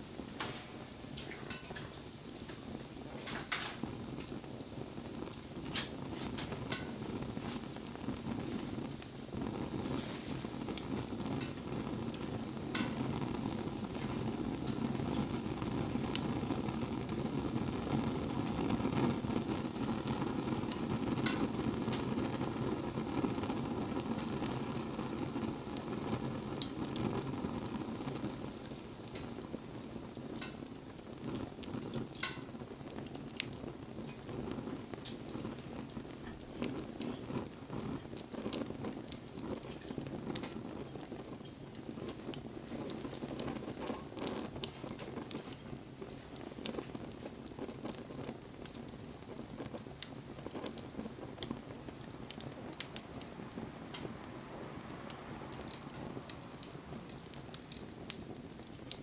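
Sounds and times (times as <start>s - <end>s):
fire crackles and pops: 0.0s - 59.0s
rush of flames: 0.0s - 59.0s.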